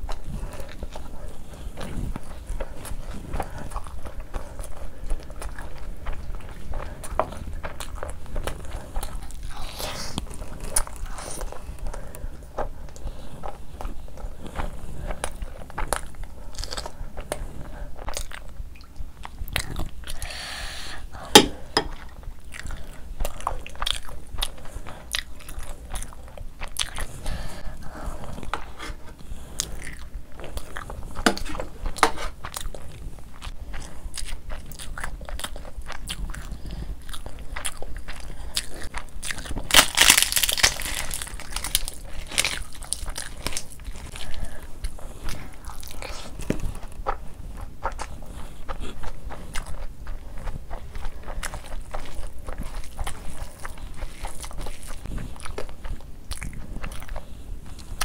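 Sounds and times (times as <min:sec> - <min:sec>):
wet chewing and mouth clicks: 0:00.0 - 0:58.0.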